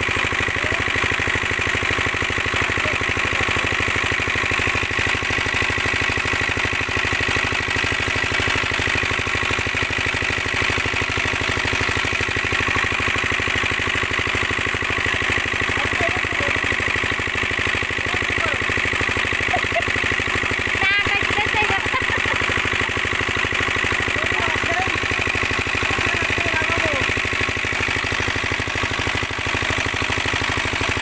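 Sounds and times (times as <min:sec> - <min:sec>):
water gushing into tank: 0:00.0 - 0:20.8, 0:21.5 - 0:31.0
diesel pump engine running: 0:00.0 - 0:31.0.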